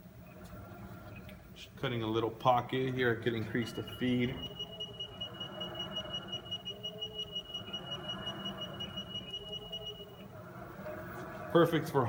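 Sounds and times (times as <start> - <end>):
milling machine whine: 0.0 - 12.0.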